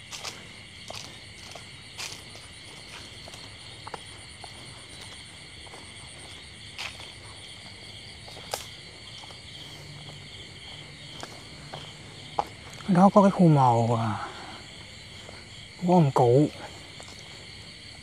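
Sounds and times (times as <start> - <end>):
crickets and insects chirping: 0.0 - 18.0
footsteps on dry leaves: 0.0 - 18.0.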